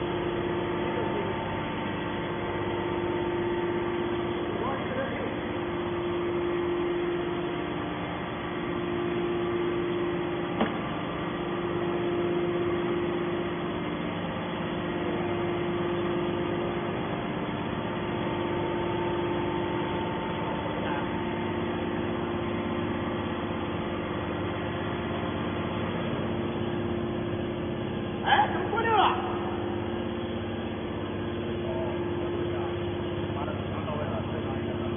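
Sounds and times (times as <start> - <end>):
machine hum: 0.0 - 34.9.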